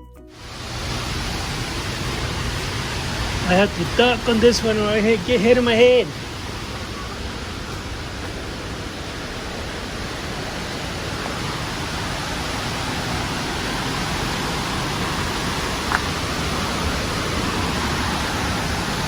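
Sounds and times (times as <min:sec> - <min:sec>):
waterfall rushing: 0:00.3 - 0:19.0.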